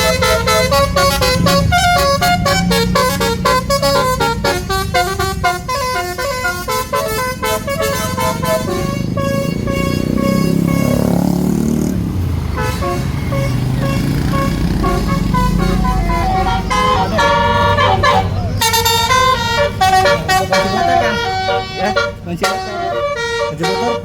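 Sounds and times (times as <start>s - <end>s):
bus engine driving past: 0.0s - 24.0s
musical horn playing a melody: 0.0s - 24.0s.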